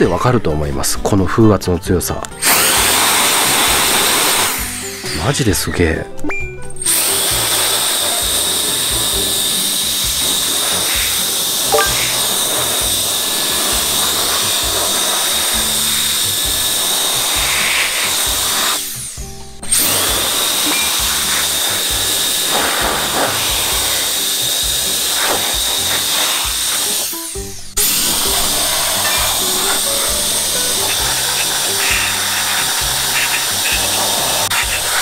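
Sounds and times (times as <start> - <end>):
background music: 0.0 - 35.0
air duster motor whining: 2.3 - 35.0.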